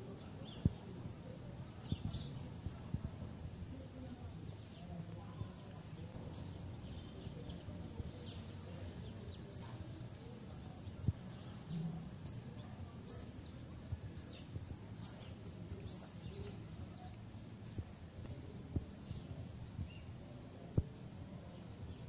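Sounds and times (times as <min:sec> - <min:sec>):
low outdoor rumble: 0:00.0 - 0:22.0
small birds chirping: 0:00.0 - 0:22.0.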